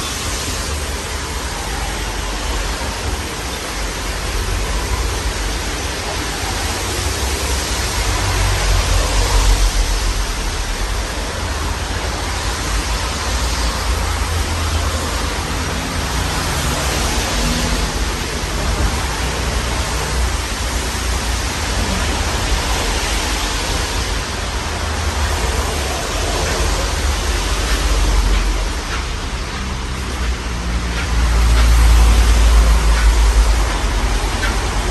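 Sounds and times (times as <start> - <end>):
draught buffeting microphone: 0.0 - 34.9.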